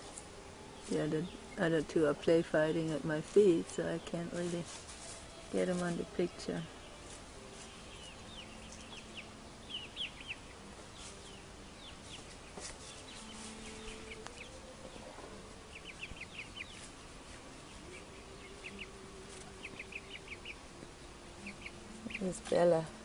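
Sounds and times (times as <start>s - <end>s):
birds chirping faintly: 0.0s - 23.0s
faint low hum: 0.0s - 23.0s.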